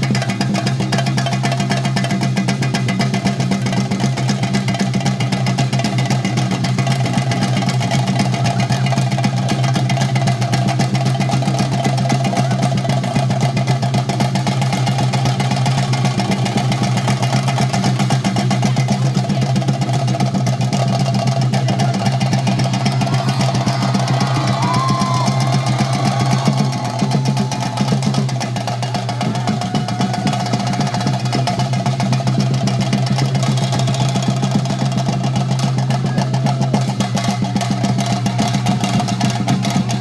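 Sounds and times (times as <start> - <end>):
drums in fast continuous roll: 0.0 - 40.0.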